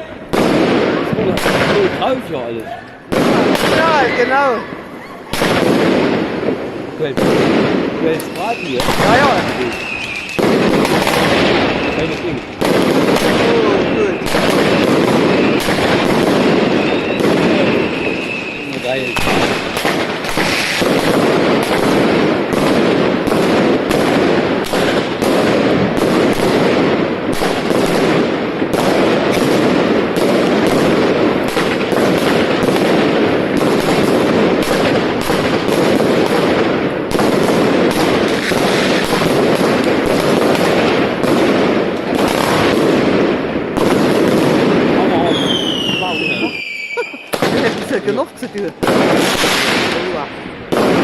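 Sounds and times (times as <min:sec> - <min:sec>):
fireworks crackling and banging: 0:00.0 - 0:51.0.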